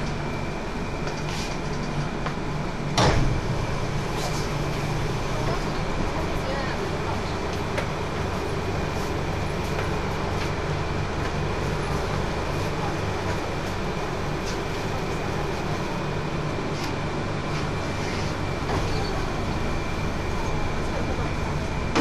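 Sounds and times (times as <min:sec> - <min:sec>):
low equipment and ventilation hum: 0:00.0 - 0:22.0.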